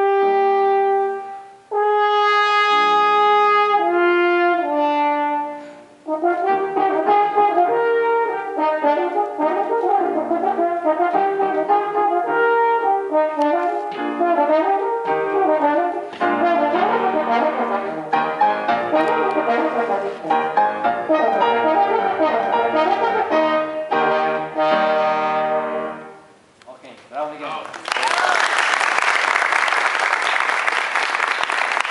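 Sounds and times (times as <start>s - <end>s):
french horn playing: 0.0s - 26.4s
piano accompaniment: 0.0s - 26.5s.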